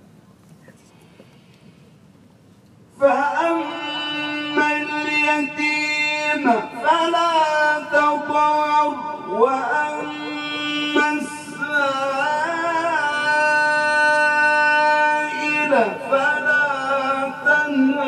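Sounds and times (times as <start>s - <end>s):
man reciting melodically: 2.9s - 18.0s.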